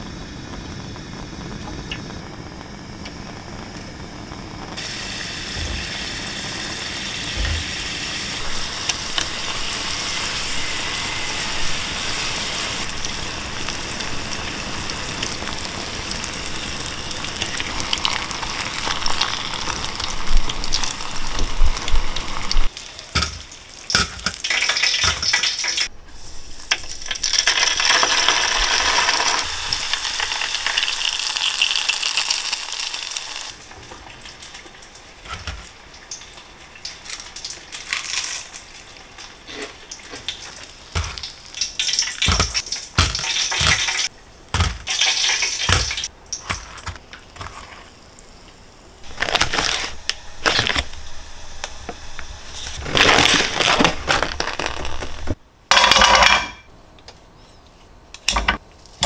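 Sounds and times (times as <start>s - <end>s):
food sizzling in hot oil: 0.0s - 55.4s.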